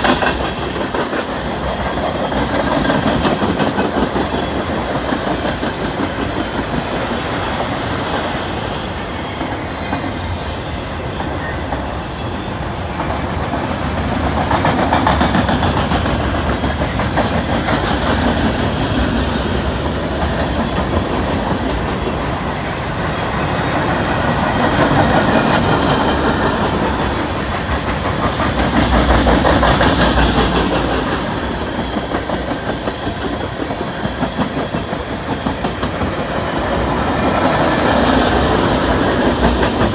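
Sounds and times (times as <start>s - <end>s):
train wheels clickety-clack: 0.0s - 39.9s.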